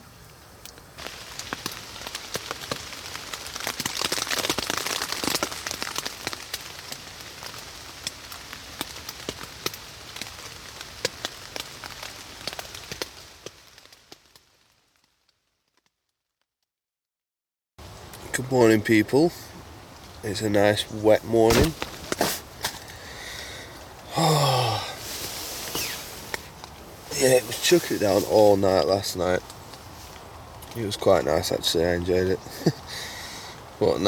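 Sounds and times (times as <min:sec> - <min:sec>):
rain on a tarp: 0:00.0 - 0:16.5, 0:17.8 - 0:34.0.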